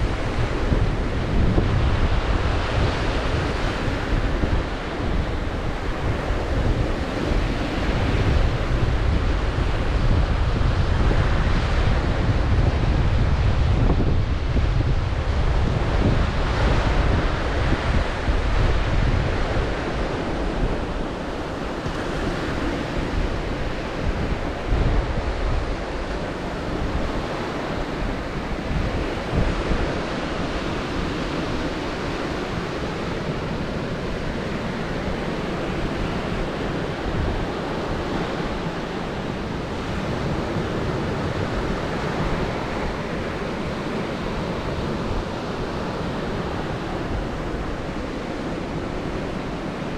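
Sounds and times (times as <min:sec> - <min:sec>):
sea waves breaking on shore: 0:00.0 - 0:49.9
wind buffeting microphone: 0:00.0 - 0:49.9.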